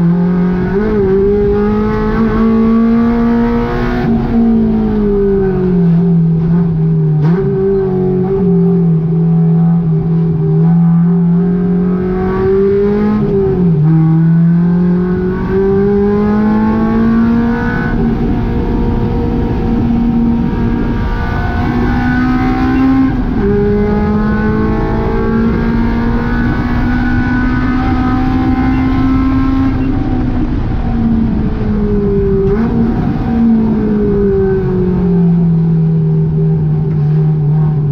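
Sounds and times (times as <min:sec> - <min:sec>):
car engine revving at full throttle: 0:00.0 - 0:37.9.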